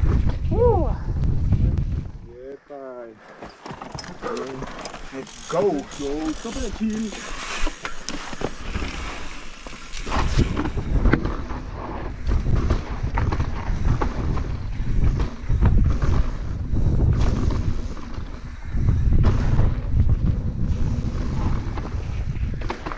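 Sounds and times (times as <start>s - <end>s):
wind buffeting microphone: 0.0s - 2.4s, 4.9s - 22.9s
bike knocking and rattling: 3.2s - 20.5s, 21.5s - 22.9s.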